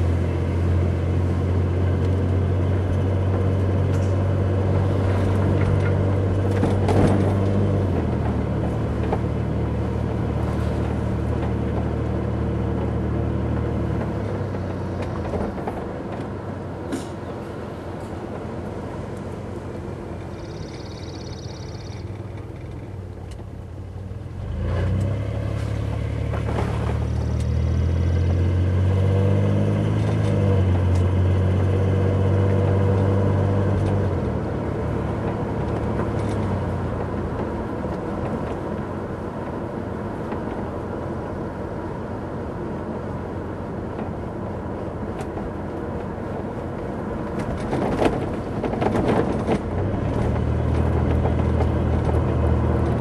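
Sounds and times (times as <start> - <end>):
car engine accelerating: 0.0 - 53.0
car rattling over bumps: 0.0 - 53.0
tyre and road noise: 0.0 - 53.0.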